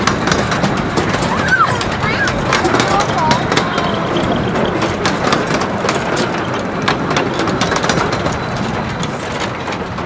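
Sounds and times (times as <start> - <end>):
train carriages rumbling: 0.0 - 10.0
train wheels clicking over rail joints: 0.0 - 10.0.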